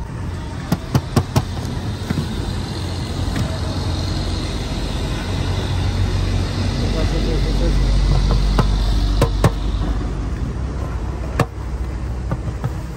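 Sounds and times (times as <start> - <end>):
low traffic rumble: 0.0 - 12.9.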